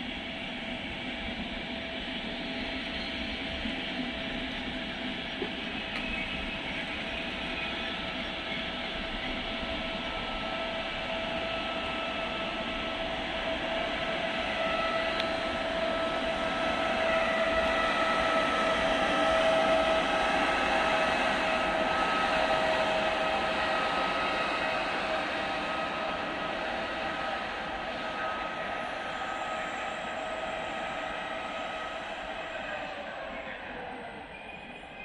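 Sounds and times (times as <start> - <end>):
locomotive whine: 0.0 - 35.0
train wheels rumbling on rails: 0.0 - 35.0.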